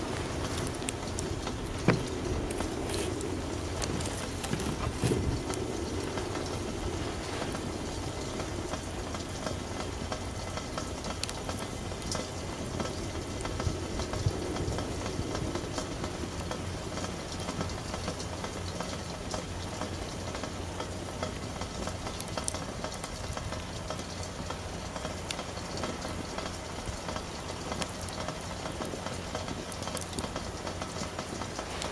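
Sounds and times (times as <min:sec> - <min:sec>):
flames rushing: 0:00.0 - 0:31.9
wood crackling and popping: 0:00.0 - 0:31.9.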